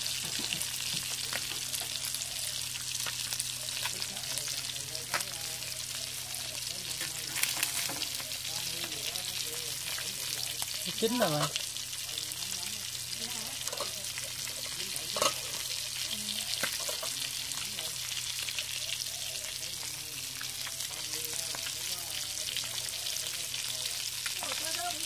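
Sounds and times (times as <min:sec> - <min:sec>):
fish frying in sizzling oil: 0:00.0 - 0:25.0.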